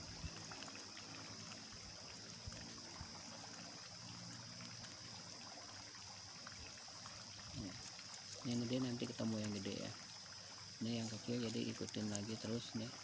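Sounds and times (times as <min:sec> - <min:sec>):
leaf weaving ticks and rustles: 0:00.0 - 0:10.1, 0:10.7 - 0:13.0
faint steady hiss: 0:00.0 - 0:13.0.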